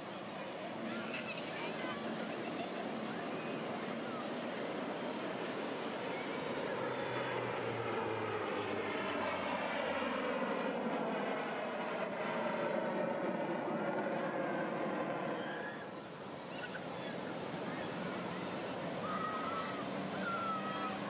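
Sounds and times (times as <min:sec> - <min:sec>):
aircraft engines droning in flight: 0:00.0 - 0:21.0.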